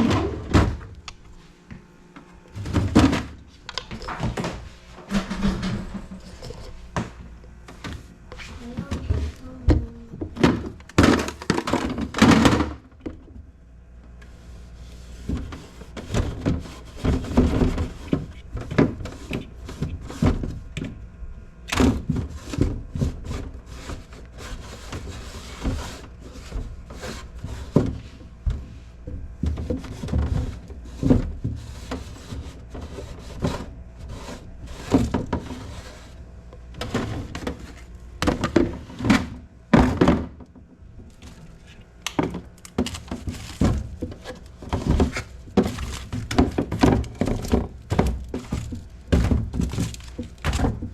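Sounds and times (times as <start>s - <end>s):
refrigerator shelves and containers clattering: 0.0s - 13.5s, 14.4s - 50.9s.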